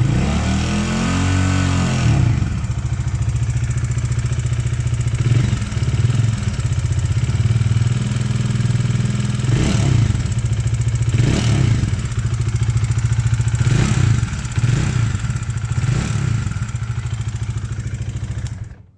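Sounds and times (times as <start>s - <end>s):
motorcycle engine running with mechanical noise: 0.0s - 18.9s.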